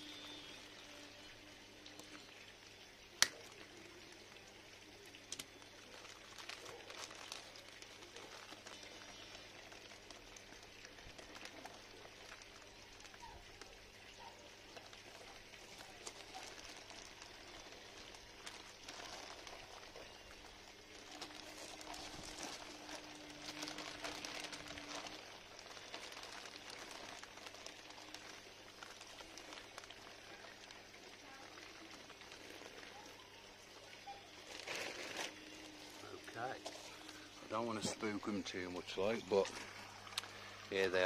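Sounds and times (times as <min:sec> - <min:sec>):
plastic bags crinkling: 0:05.2 - 0:41.0.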